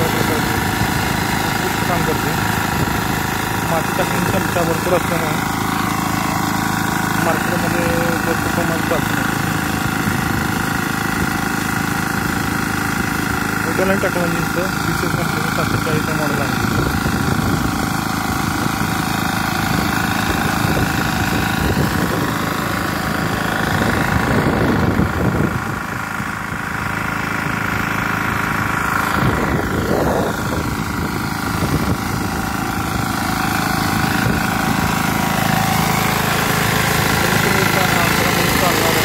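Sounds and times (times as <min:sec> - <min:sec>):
tiller engine running: 0:00.0 - 0:39.0.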